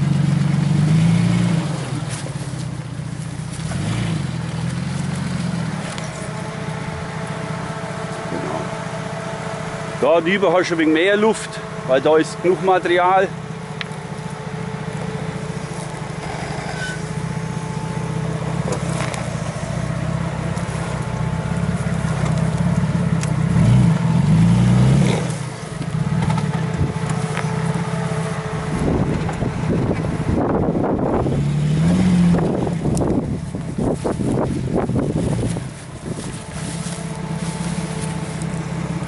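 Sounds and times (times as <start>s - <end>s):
stones crunching under tyres: 0.0s - 7.4s, 13.6s - 30.2s, 31.3s - 39.0s
car engine running at low revs: 0.0s - 39.0s.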